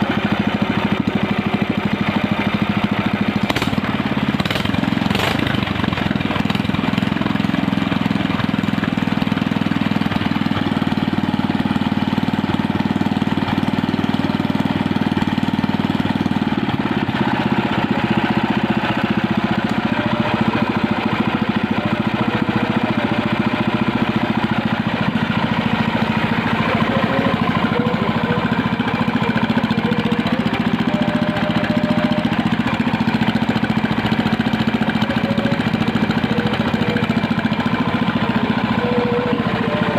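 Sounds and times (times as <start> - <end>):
small engine idling: 0.0 - 39.9.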